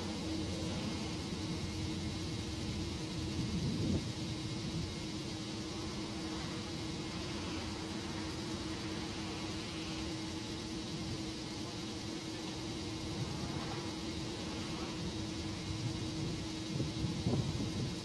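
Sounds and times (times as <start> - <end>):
wind gusting on microphone: 0.0 - 11.3, 12.7 - 18.0
ship engine humming: 0.0 - 17.7.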